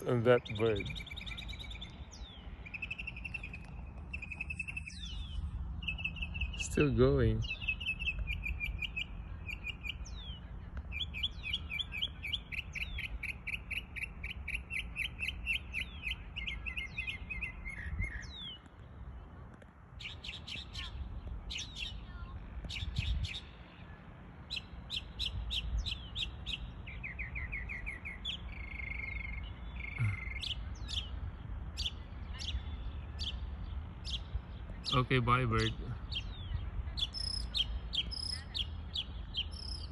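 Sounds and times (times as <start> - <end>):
mockingbird singing: 0.0 - 18.7, 20.0 - 39.9.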